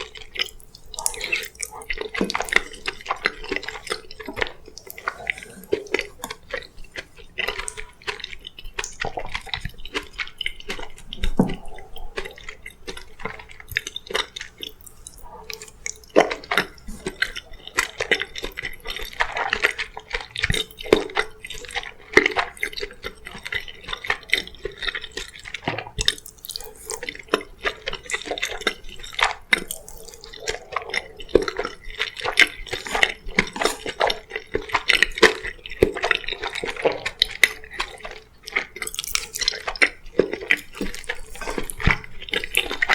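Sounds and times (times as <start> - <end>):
wet chewing and lip smacking: 0.0 - 42.9.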